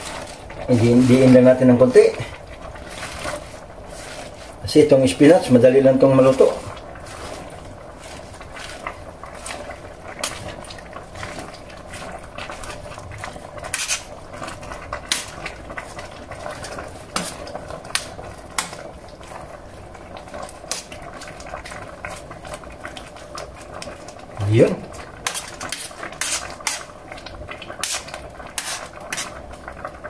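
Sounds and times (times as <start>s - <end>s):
soup simmering: 0.0s - 30.0s.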